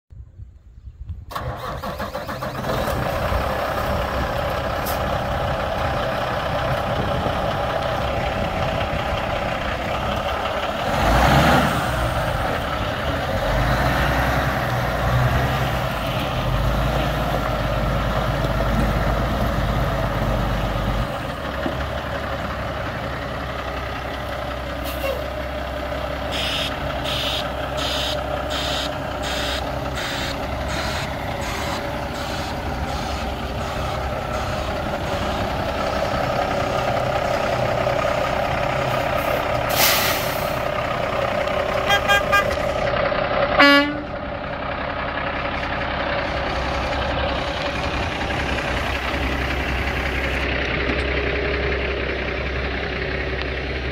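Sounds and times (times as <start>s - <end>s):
diesel truck engine idling: 1.2s - 53.9s.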